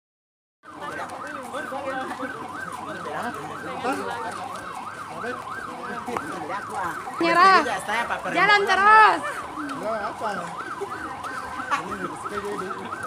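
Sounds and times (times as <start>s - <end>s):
electronic siren yelping: 0.7s - 13.0s.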